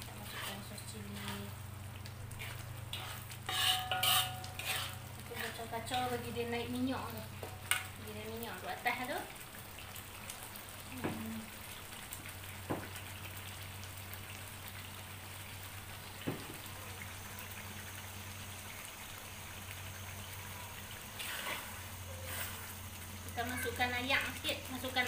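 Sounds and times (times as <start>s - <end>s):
paste sizzling in oil: 0.0s - 25.0s.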